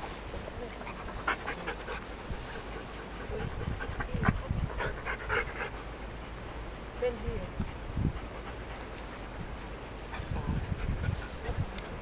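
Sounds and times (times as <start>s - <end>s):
large dog panting: 0.7s - 12.0s.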